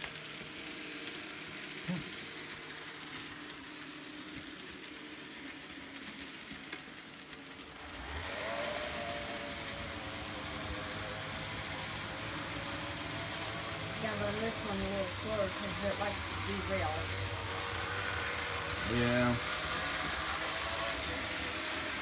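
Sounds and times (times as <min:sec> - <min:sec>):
model train wheels rolling on rails: 0:00.0 - 0:22.0
thin motor whine: 0:00.0 - 0:22.0.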